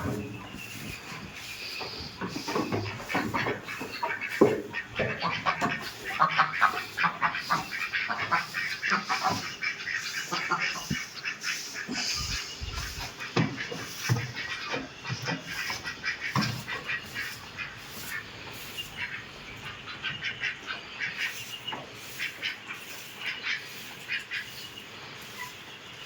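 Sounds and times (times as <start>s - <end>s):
bird-like animal calls: 0.0s - 25.6s.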